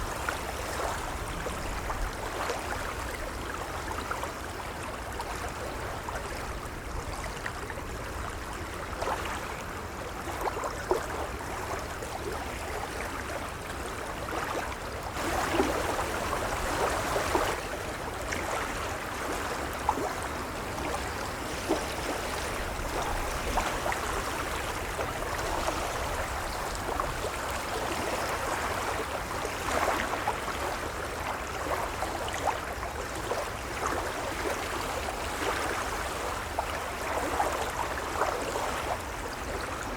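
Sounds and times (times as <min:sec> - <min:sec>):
waves lapping and splashing: 0:00.0 - 0:39.9.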